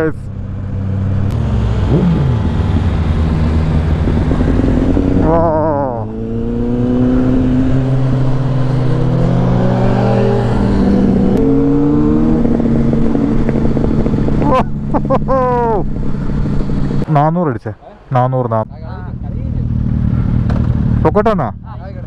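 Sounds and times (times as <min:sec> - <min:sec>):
motorcycle engine accelerating: 0:00.0 - 0:17.1, 0:18.7 - 0:22.0
wind and wet road rush: 0:00.0 - 0:21.0.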